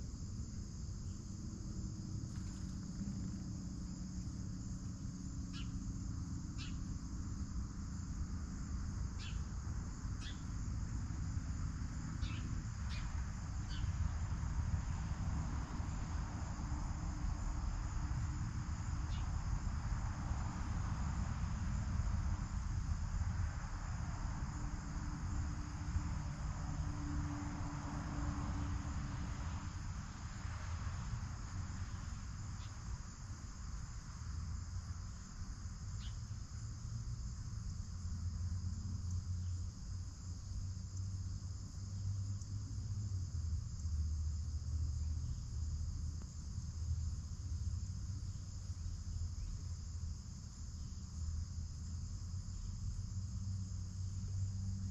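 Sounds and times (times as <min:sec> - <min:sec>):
crickets trilling: 0:00.0 - 0:54.9
low outdoor rumble: 0:00.0 - 0:54.9.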